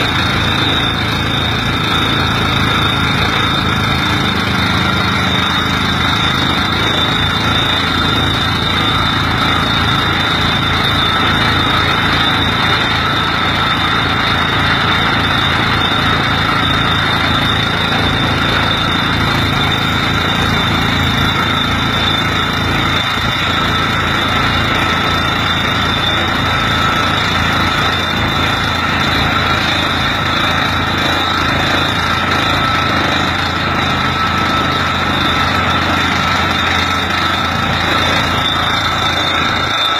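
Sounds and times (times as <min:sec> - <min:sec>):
steady high whine: 0:00.0 - 0:39.9.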